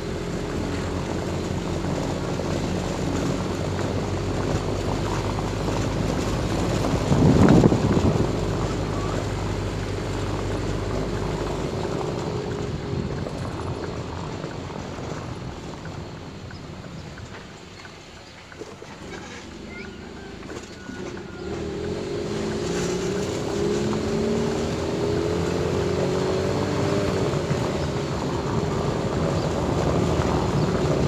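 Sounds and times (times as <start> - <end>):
wind noise on microphone: 0.0 - 17.6, 20.2 - 31.0
motorcycle engine running: 0.0 - 31.0.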